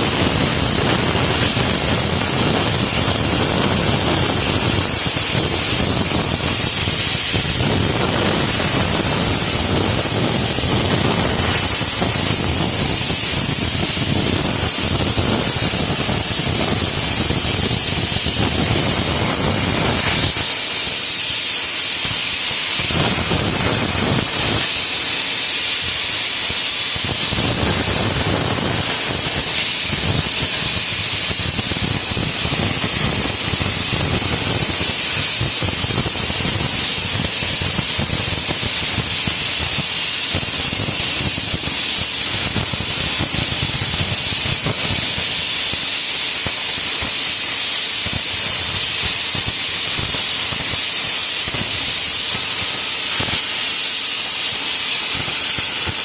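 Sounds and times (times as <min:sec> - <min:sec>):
pressurised air spray hissing: 0:00.0 - 0:56.0.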